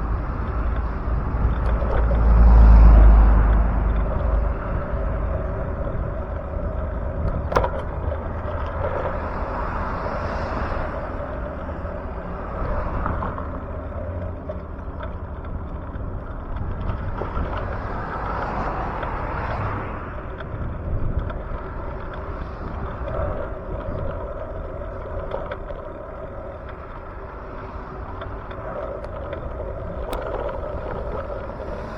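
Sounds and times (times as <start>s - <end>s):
bicycle riding rushing noise: 0.0s - 31.9s
road traffic: 0.0s - 31.9s.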